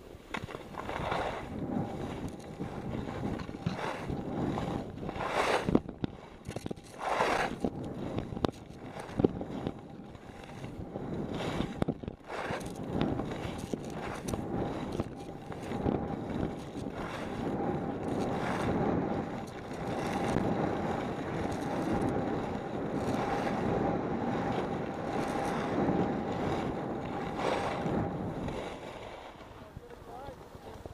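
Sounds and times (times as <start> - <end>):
skis scraping over snow: 0.0 - 30.9
wind on microphone: 0.0 - 30.9.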